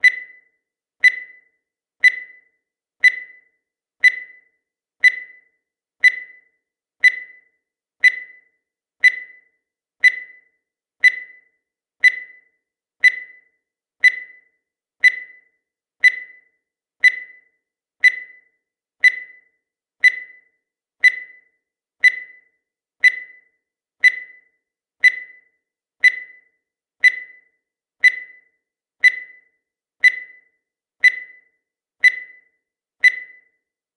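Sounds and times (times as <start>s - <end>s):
timer ticking: 0.0s - 33.7s.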